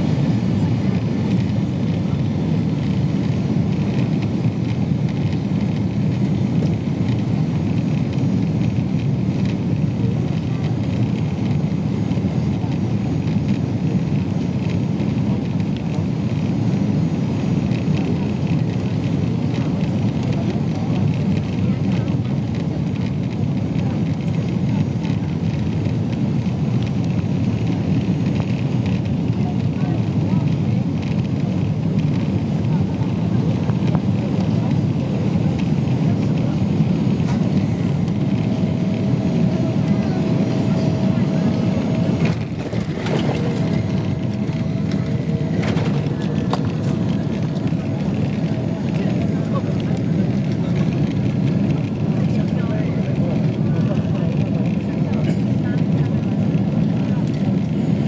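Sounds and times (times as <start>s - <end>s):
airliner cabin engine roar: 0.0s - 58.0s.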